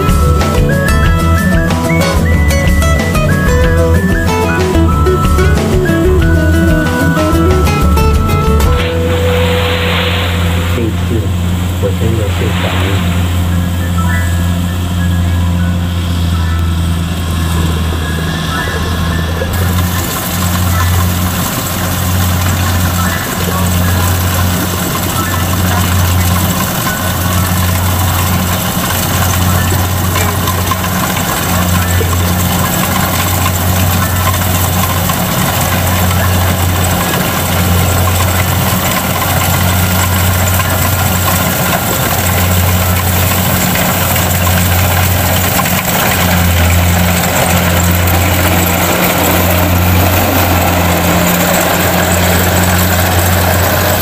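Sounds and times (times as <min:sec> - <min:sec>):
combine harvester engine humming: 0:00.0 - 0:54.0
mechanical whir: 0:08.7 - 0:54.0.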